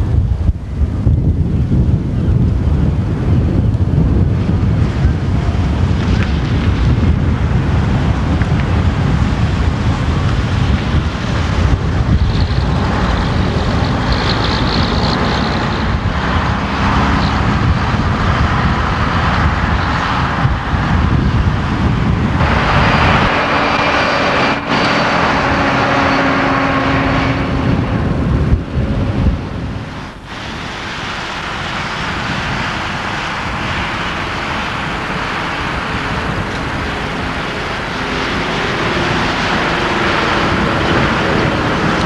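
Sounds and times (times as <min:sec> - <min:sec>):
road vehicle rumbling: 0:00.0 - 0:42.0
wind buffeting microphone: 0:00.0 - 0:42.0.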